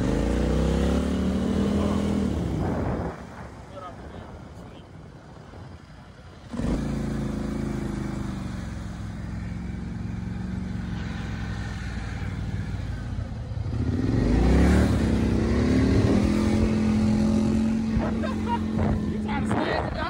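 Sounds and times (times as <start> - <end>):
atv engine revving: 0.0 - 3.7, 5.2 - 20.0.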